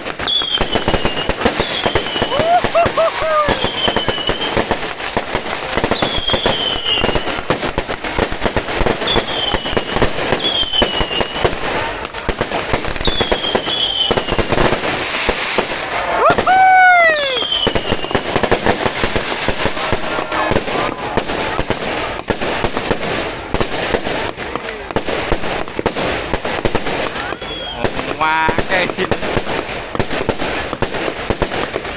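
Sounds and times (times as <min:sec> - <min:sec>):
fireworks crackling bangs: 0:00.0 - 0:31.9
fireworks whistling: 0:00.0 - 0:31.9.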